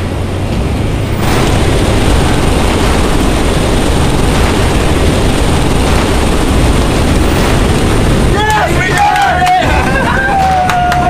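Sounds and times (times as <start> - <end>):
aircraft cabin noise: 0.0 - 11.0.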